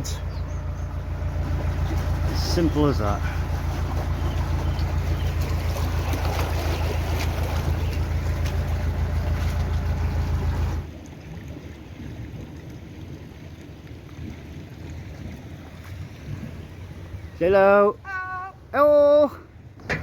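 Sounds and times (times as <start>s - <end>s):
boat engine thrumming: 0.0s - 20.0s.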